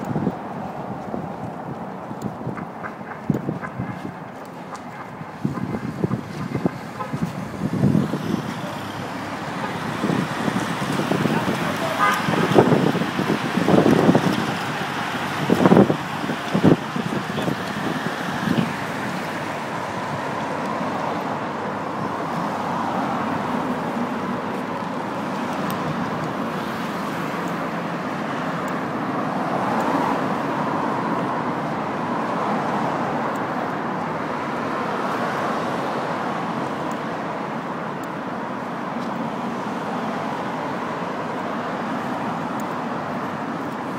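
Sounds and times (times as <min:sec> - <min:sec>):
cars driving past: 0:00.0 - 0:43.9.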